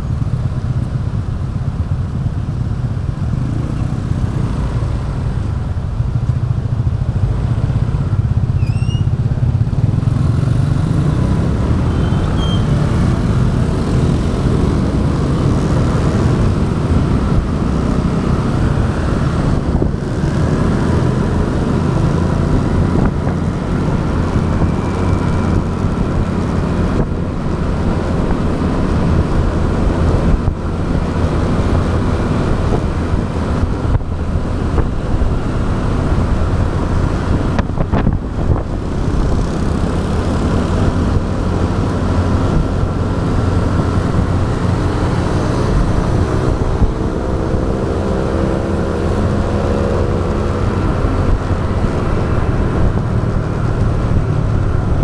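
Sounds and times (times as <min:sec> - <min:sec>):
motorbike engine running: 0:00.0 - 0:55.0
road and traffic noise: 0:00.0 - 0:55.0.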